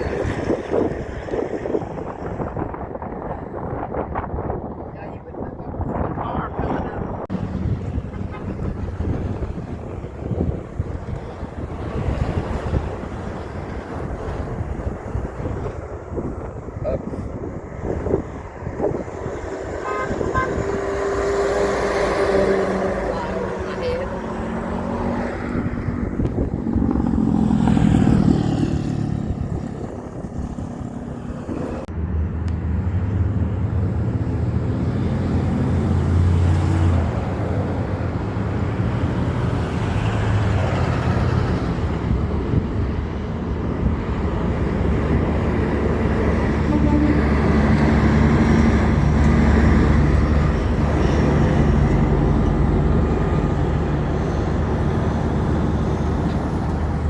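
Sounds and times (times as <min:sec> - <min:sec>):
heavy truck engines running: 0:07.2 - 0:57.0.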